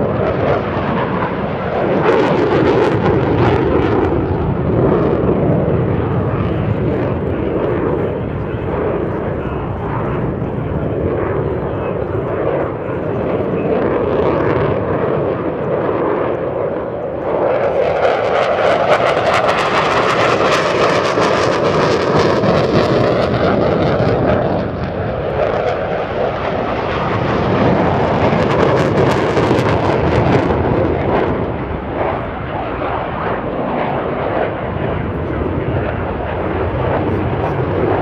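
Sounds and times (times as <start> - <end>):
jet engine flyby: 0.0 - 38.0.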